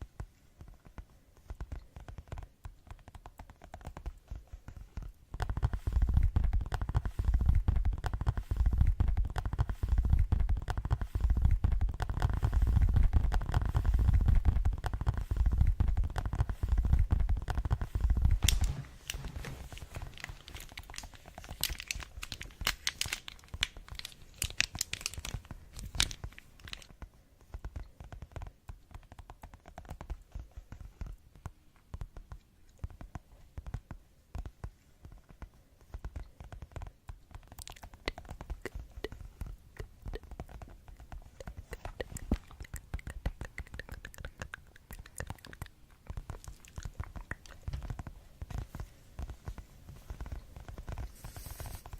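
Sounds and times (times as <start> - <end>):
fingertips tapping on objects: 0.0 - 51.9.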